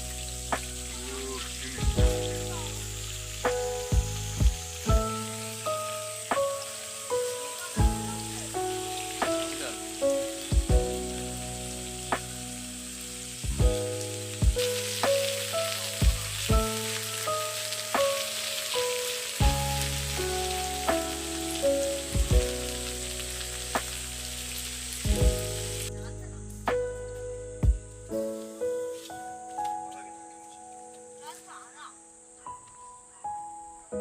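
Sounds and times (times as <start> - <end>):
melodic background music with bass: 0.0 - 31.2
steady hiss: 0.0 - 34.0.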